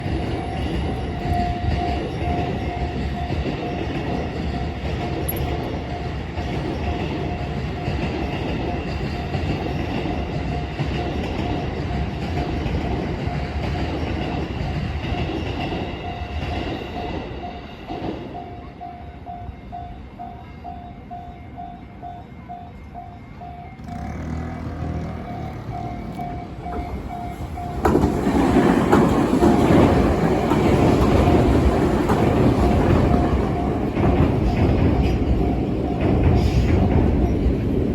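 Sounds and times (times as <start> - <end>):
train rumbling: 0.0 - 37.9.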